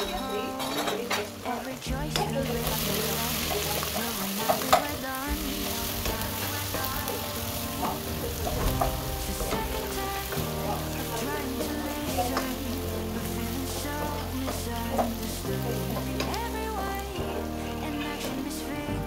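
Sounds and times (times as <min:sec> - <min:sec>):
meat sizzling in a pot: 0:02.2 - 0:18.4.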